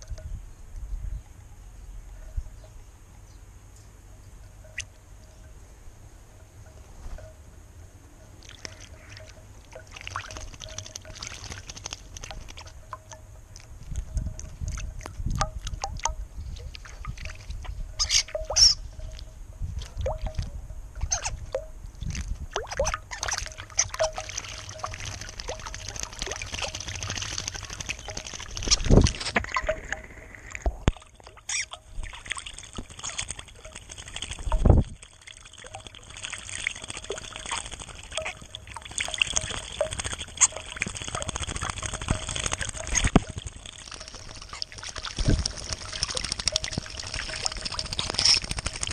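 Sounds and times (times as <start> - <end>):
water splashing and dripping: 8.4 - 48.9.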